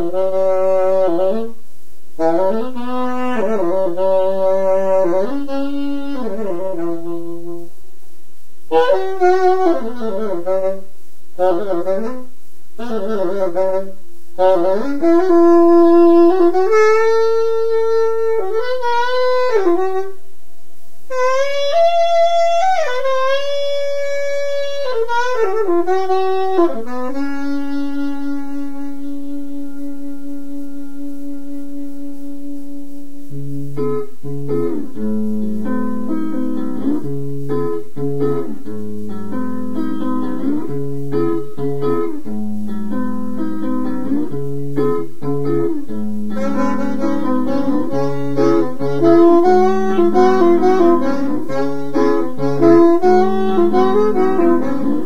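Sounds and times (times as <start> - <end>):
saxophone improvising: 0.0 - 1.6, 2.2 - 7.7, 8.7 - 20.2, 21.1 - 55.0
steady held tone: 0.0 - 55.0.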